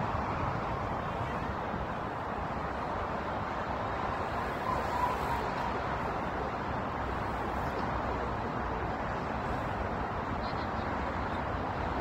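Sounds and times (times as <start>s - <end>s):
distant road traffic roar: 0.0s - 12.0s.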